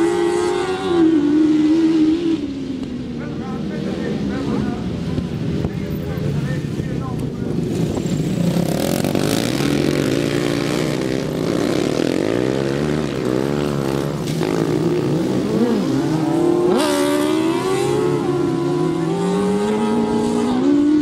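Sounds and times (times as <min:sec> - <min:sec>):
lawn mower engines racing: 0:00.0 - 0:21.0.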